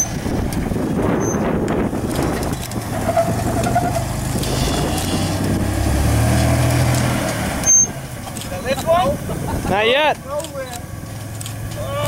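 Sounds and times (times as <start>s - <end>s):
truck engine at low revs: 0.0s - 12.0s.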